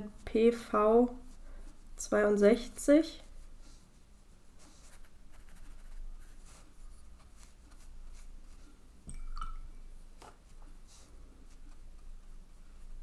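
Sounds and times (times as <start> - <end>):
brush scratching on paper: 0.2 - 8.8, 10.4 - 13.0.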